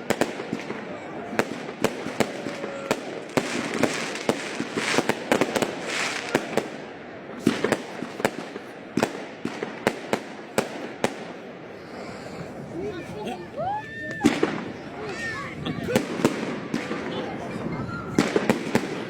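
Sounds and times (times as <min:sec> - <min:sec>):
fireworks bangs: 0:00.0 - 0:11.7, 0:14.2 - 0:19.0
fireworks crackling fizz: 0:00.0 - 0:11.8, 0:14.2 - 0:19.0.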